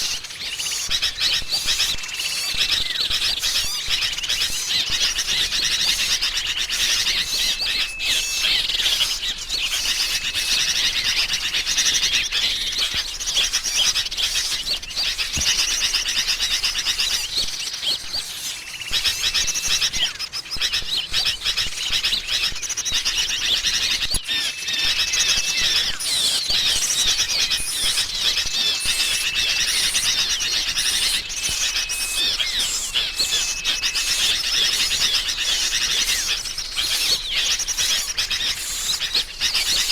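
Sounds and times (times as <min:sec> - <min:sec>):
bulbuls chattering: 0:00.0 - 0:39.9
small songbirds calling: 0:00.0 - 0:39.9.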